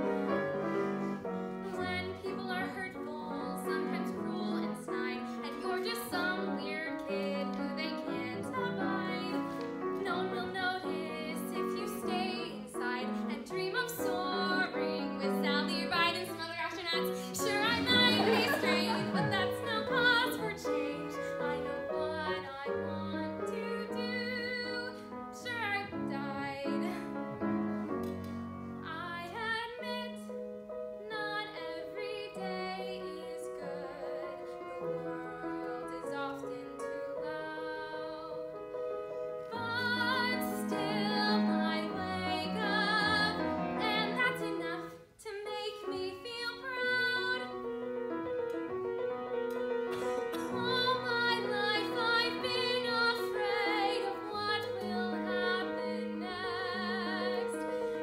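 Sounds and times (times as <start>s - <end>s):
grand piano accompaniment: 0.0s - 58.0s
woman singing: 1.6s - 27.2s, 28.8s - 38.8s, 39.4s - 47.7s, 50.2s - 58.0s.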